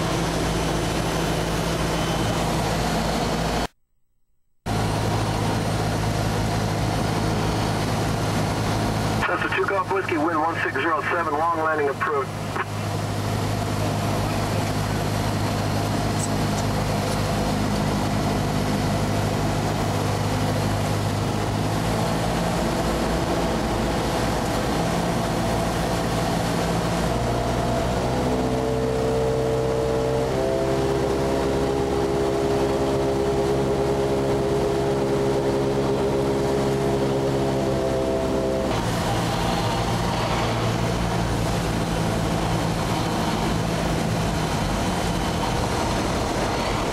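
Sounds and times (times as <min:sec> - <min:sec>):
propeller plane engine droning: 0:00.0 - 0:03.8, 0:04.7 - 0:46.9.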